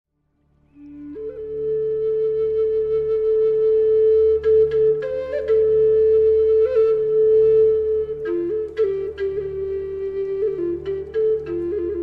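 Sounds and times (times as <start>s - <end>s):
flute playing slow melody: 0.6s - 12.0s.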